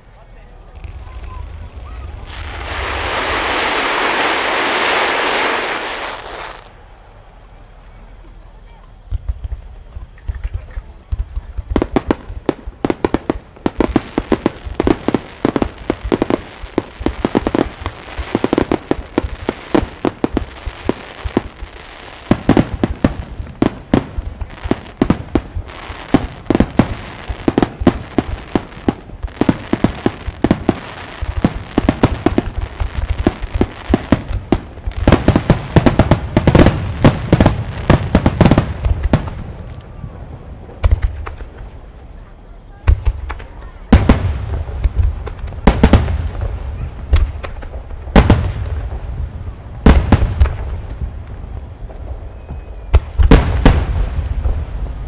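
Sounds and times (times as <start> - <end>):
fireworks sharp bangs: 0.0 - 7.2, 8.3 - 55.0
fireworks deep booms: 0.0 - 7.3, 8.9 - 55.0.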